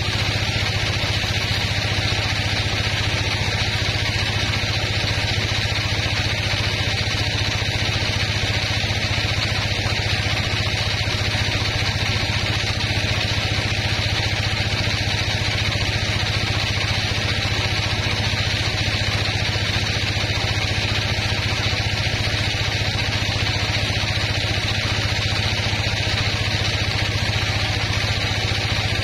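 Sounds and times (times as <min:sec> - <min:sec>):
sawmill drive humming: 0:00.0 - 0:29.0.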